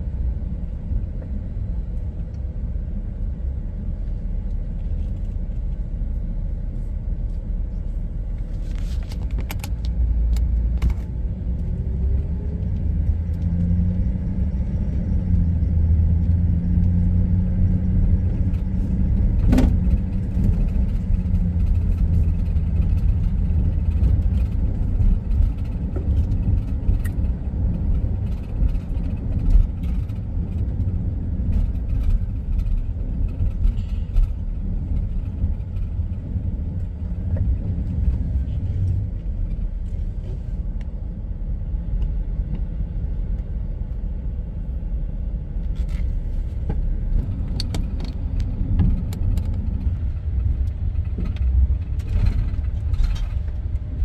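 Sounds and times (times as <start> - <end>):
car engine and tyres rumbling: 0.0 - 54.0
low hum: 0.0 - 54.0.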